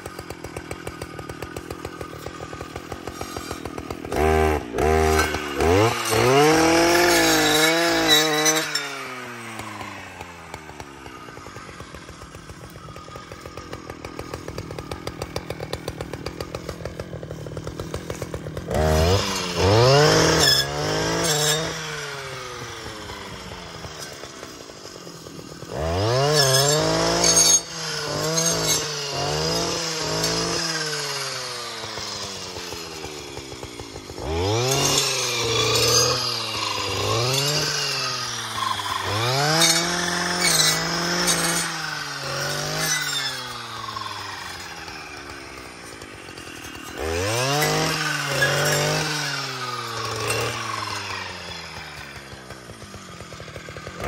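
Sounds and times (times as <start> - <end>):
brush cutter engine revving: 0.0 - 54.0
saw blade cutting bushes: 0.0 - 54.0.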